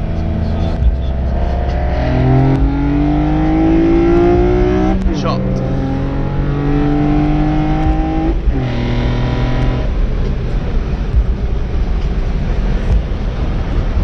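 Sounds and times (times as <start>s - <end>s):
car engine accelerating hard: 0.0s - 14.0s
road and wind noise: 0.0s - 14.0s.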